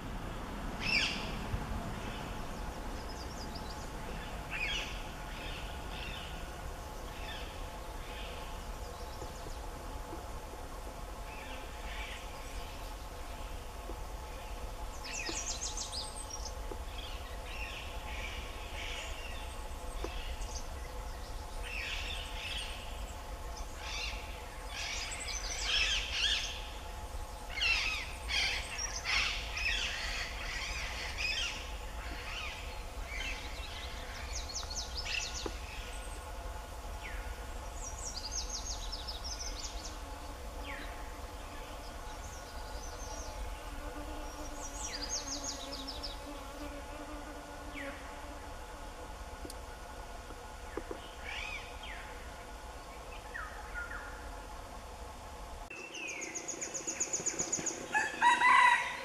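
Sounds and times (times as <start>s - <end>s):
steady hum: 0.0s - 58.0s
wild birds chirping and trilling: 0.0s - 59.0s.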